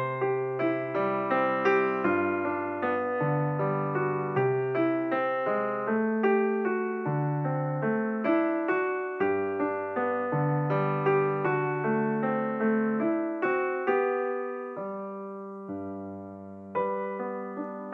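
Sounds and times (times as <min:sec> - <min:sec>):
gentle piano melody: 0:00.0 - 0:17.9.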